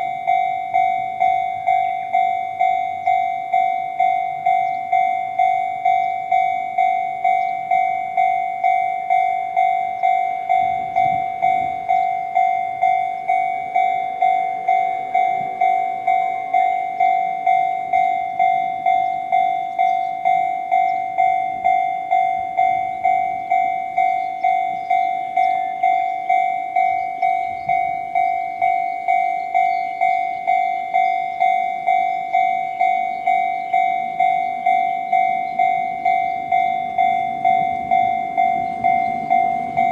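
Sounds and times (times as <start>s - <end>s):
level crossing electronic bell: 0.0s - 39.9s.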